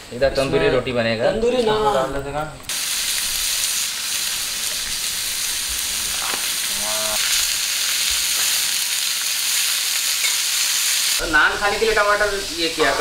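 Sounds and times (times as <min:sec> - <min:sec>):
food sizzling on griddle: 0:01.4 - 0:13.0.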